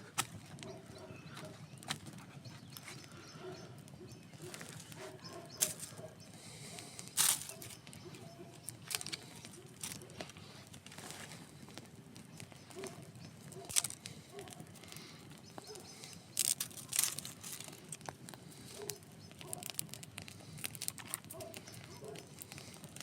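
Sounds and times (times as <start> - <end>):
campfire crackling: 0.0 - 23.0
sharp pops of burning wood: 0.0 - 23.0.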